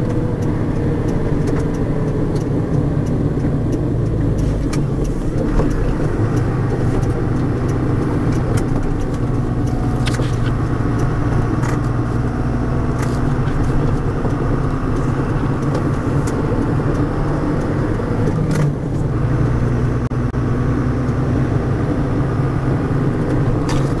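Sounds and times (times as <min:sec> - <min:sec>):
sharp clicks: 0:00.0 - 0:19.6
differential whine: 0:00.0 - 0:24.0
truck diesel engine running: 0:00.0 - 0:24.0.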